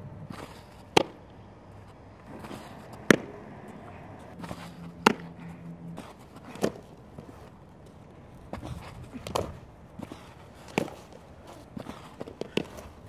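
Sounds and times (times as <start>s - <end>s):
softballs smacking catching gear: 0.2s - 1.4s, 2.2s - 13.0s.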